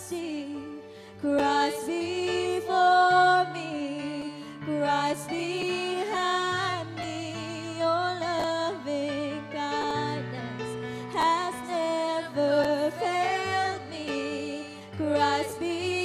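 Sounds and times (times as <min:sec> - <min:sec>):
keyboard accompaniment: 0:00.0 - 0:16.0
women singing worship song: 0:00.0 - 0:16.0.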